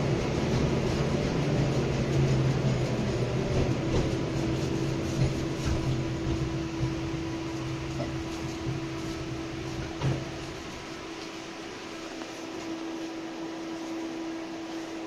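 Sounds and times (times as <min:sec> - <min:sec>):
electrical hum: 0:00.0 - 0:15.0
tram wheel and running noise: 0:00.0 - 0:15.0.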